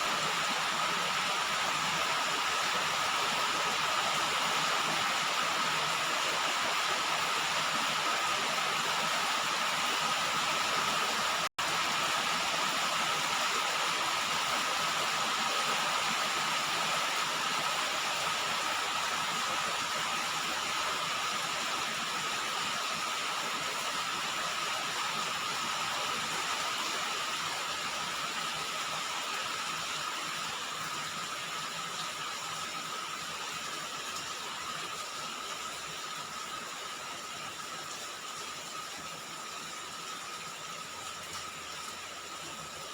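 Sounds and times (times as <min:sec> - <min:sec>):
rain falling on a roof: 0:00.0 - 0:42.9.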